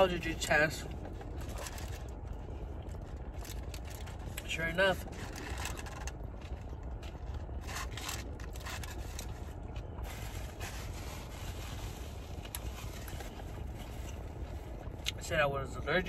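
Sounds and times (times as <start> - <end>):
car cabin hum: 0.0 - 16.0.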